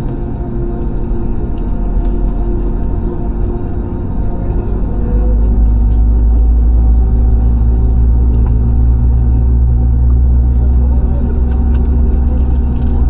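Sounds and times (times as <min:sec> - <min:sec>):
airliner cabin rumble: 0:00.0 - 0:13.0
faint hum: 0:00.0 - 0:13.0.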